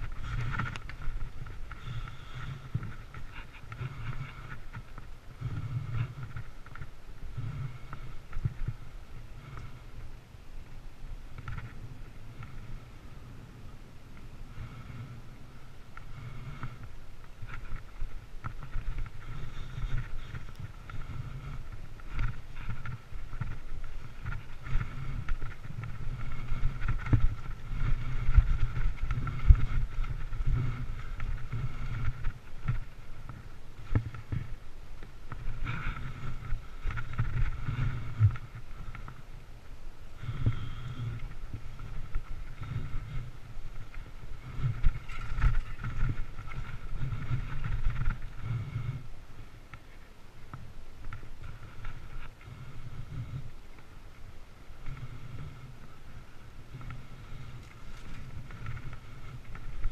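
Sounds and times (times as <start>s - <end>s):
bike tyres rumbling on dirt: 0.0s - 59.9s.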